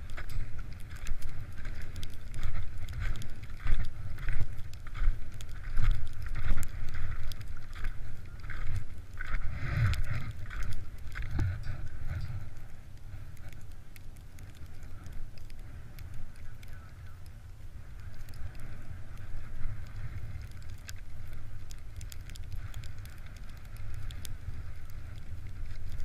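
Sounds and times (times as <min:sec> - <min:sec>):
skis crunching over crusted snow: 0:00.0 - 0:26.0
wind rumbling on microphone: 0:00.0 - 0:26.0.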